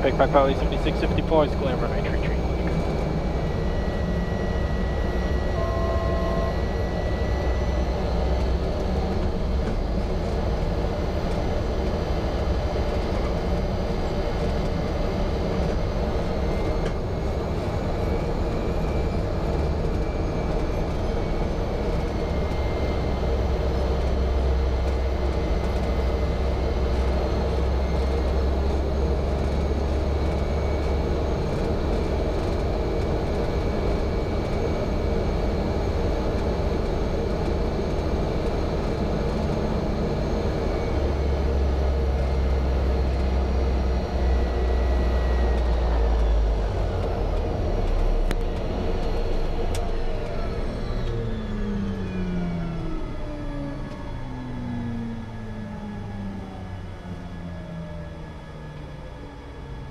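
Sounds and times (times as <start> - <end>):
high engine whine: 0.0 - 59.9
turboprop engine droning: 0.0 - 59.9.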